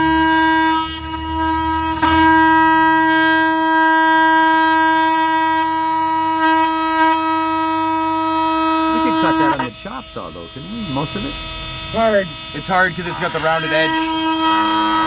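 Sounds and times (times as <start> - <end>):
oscillating multitool buzzing: 0.0 - 15.0.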